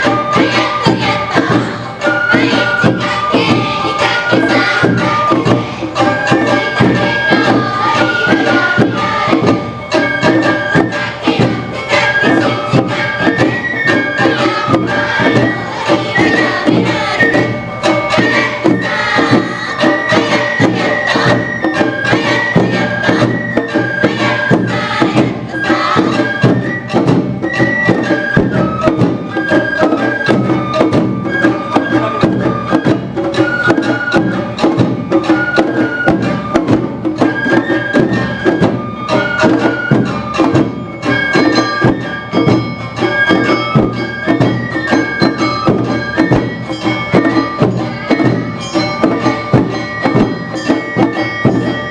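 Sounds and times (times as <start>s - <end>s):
bamboo flute melody: 0.0s - 51.9s
bell beats: 0.0s - 51.9s
drum beats: 0.0s - 51.9s.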